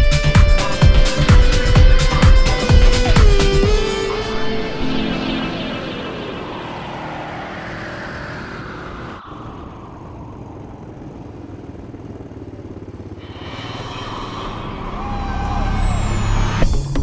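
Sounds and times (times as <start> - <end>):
quad bike engines running: 0.0 - 17.0.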